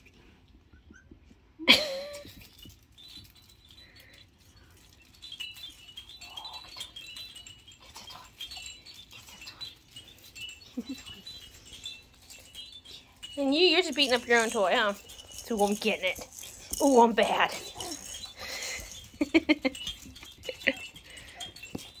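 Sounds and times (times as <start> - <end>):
plastic rattle toy jingling: 1.7 - 22.0.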